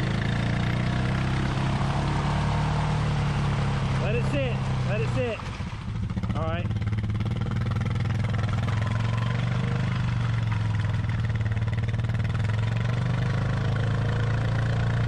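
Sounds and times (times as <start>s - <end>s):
atv engine idling: 0.0s - 2.2s, 2.9s - 15.0s.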